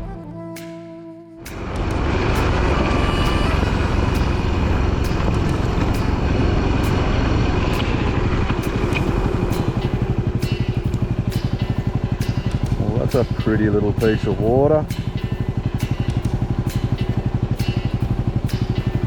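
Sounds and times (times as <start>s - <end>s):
motorcycle engine running: 1.4s - 19.0s.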